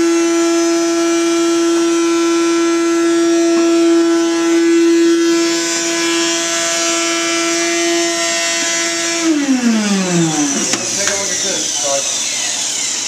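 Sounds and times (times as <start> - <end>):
small vacuum cleaner whining: 0.0 - 13.0.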